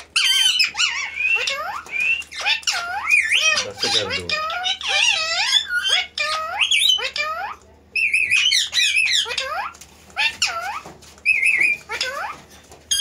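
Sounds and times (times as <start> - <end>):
parakeets warbling calls: 0.0 - 13.0.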